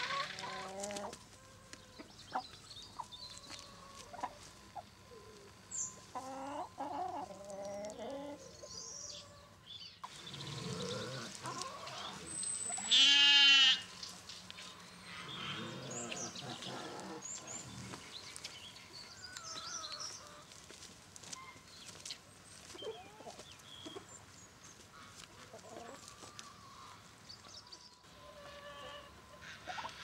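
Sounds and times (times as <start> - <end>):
chickens chirping: 0.0 - 13.1, 13.9 - 30.0
chickens clucking: 0.0 - 13.1, 13.9 - 30.0.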